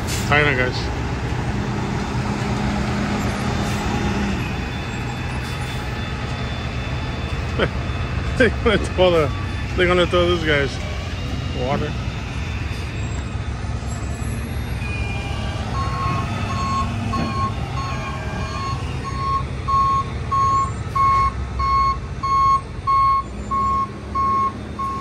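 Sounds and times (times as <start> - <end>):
truck engine rumble: 0.0 - 25.0
reversing alarm beeping: 3.2 - 25.0.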